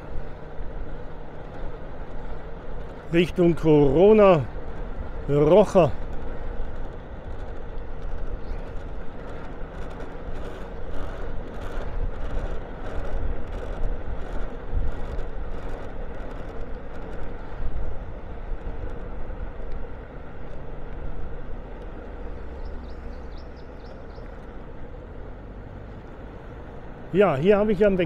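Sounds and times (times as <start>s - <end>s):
moped engine running: 0.0s - 25.2s
wind rumbling on microphone: 0.0s - 28.0s.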